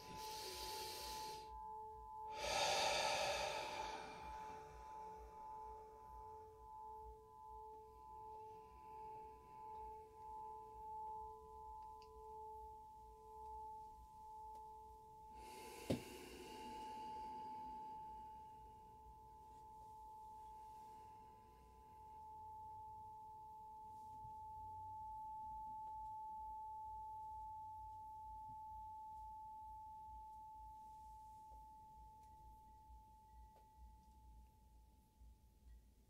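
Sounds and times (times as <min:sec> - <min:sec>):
high bell-like tone ringing: 0:00.0 - 0:35.2.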